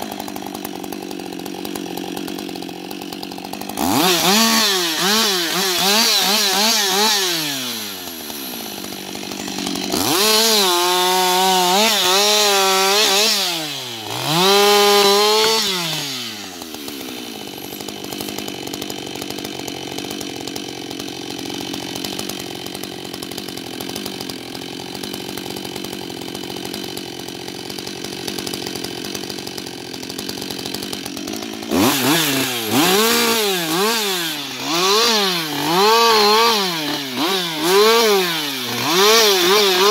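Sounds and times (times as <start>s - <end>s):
chainsaw cutting logs: 0.0s - 39.9s
chainsaw idling: 0.0s - 39.9s.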